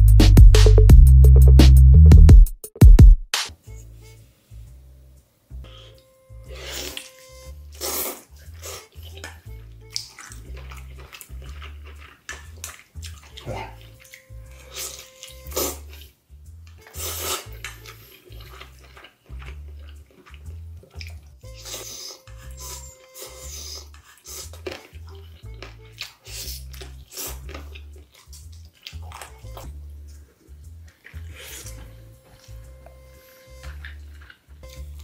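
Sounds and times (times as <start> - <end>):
music with low beat: 0.0 - 35.0
wet slurping and biting: 6.5 - 35.0.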